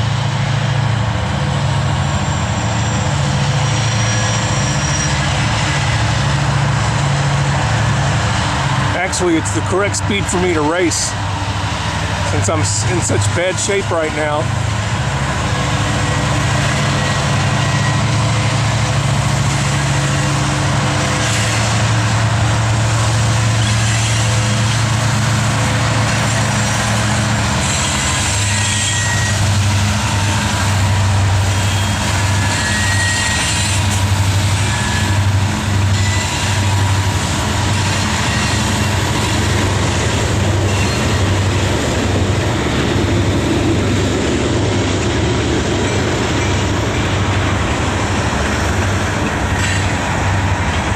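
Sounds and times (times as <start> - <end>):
train cars rolling over rail joints: 0.0 - 50.9
train diesel drone: 0.0 - 50.9.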